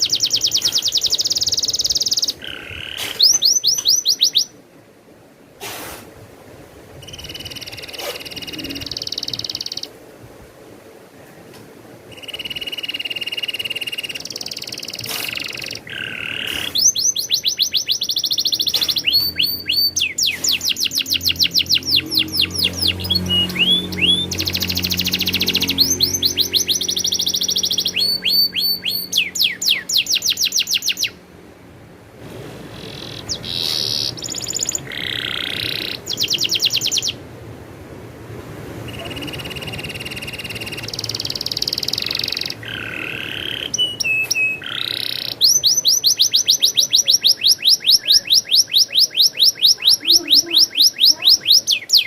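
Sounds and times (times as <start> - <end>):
canary singing trills: 0.0 - 4.6, 7.0 - 9.9, 12.1 - 31.2, 32.7 - 37.2, 38.9 - 52.0.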